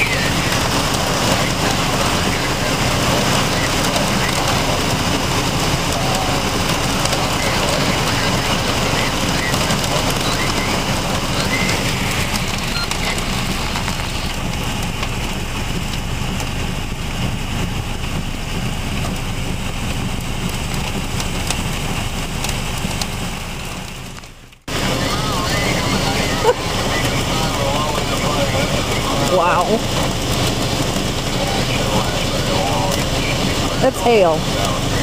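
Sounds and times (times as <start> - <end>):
heavy rain and hail pelting: 0.0 - 35.0.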